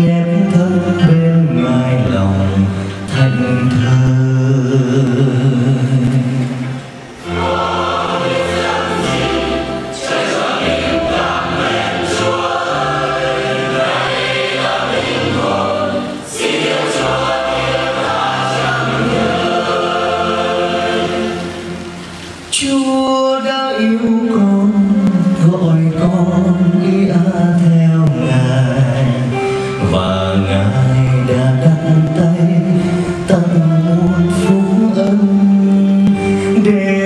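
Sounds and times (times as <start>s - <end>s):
choir singing a hymn: 4.6s - 37.0s.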